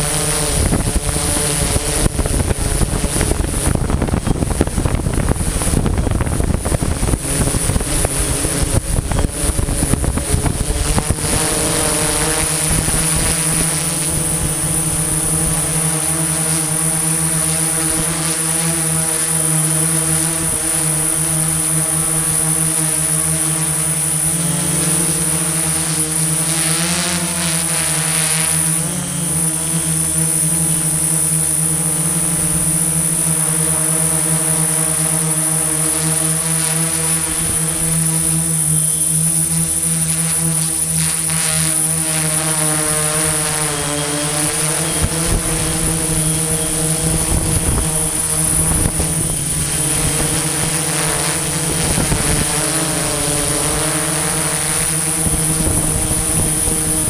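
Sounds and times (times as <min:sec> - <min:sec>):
construction machine engine droning: 0:00.0 - 0:57.0.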